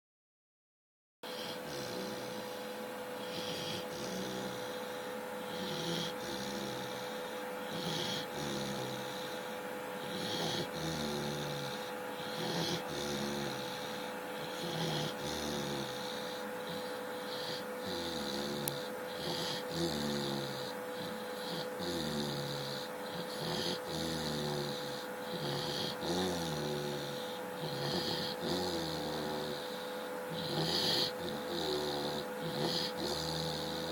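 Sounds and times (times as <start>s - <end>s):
dog snoring: 1.3s - 33.9s
steady hum: 1.3s - 33.9s.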